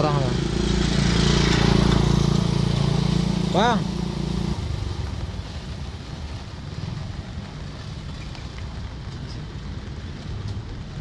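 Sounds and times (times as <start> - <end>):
motorcycle engine and road noise: 0.0 - 11.0
wind rumbling over microphone: 0.4 - 11.0.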